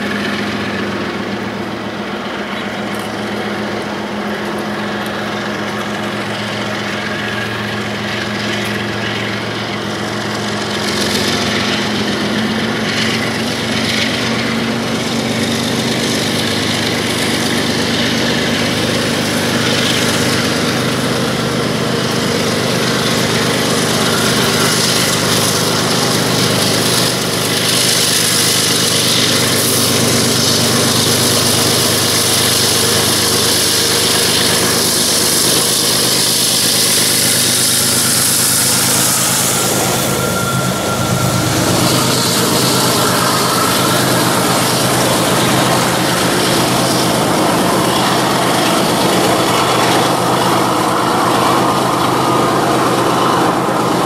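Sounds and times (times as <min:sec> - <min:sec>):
diesel locomotive engine: 0:00.0 - 0:54.0
rail cars rushing hiss: 0:00.0 - 0:54.0.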